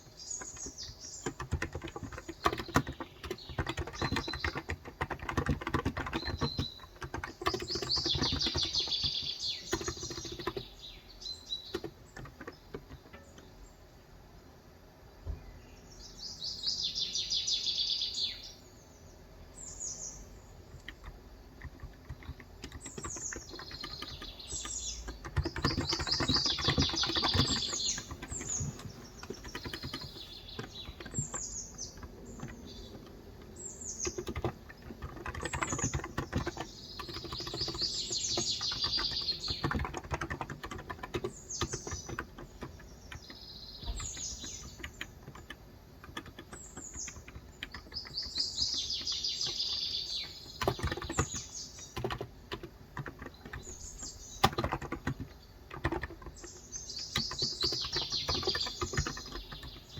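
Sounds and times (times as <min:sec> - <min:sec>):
birds chirping: 0:00.0 - 0:14.6, 0:15.2 - 0:59.9
keyboard typing clicks: 0:00.4 - 0:10.7, 0:11.6 - 0:13.5, 0:20.7 - 0:59.9.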